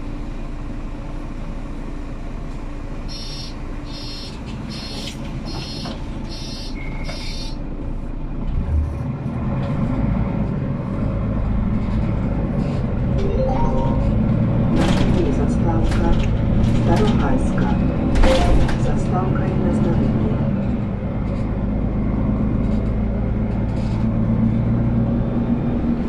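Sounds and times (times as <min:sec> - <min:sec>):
bus engine rumble: 0:00.0 - 0:26.0.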